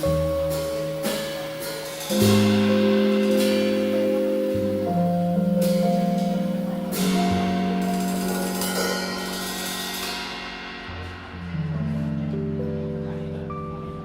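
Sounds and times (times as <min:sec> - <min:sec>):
cymbal crashes: 0:00.0 - 0:13.2
piano chords: 0:00.0 - 0:14.0.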